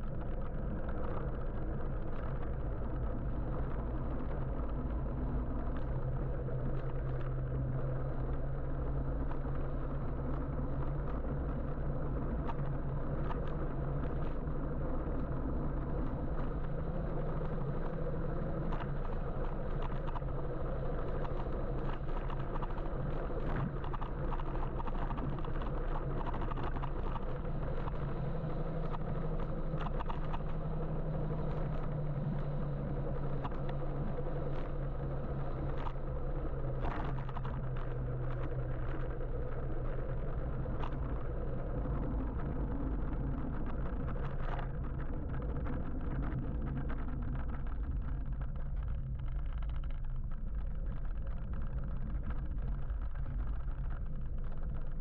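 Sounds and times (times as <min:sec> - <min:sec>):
low hum: 0:00.0 - 0:55.0
traffic and road noise: 0:00.0 - 0:55.0
faint ticks: 0:05.6 - 0:55.0.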